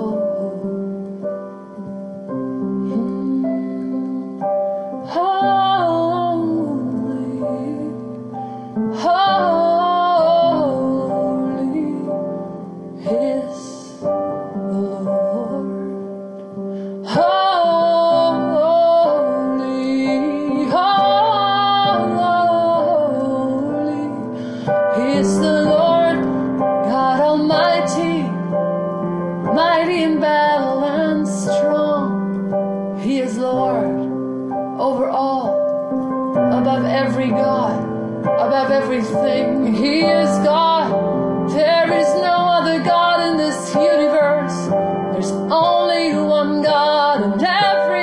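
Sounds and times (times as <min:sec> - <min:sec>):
woman singing: 0:00.0 - 0:16.3, 0:16.9 - 0:48.0
held piano chords: 0:00.0 - 0:48.0.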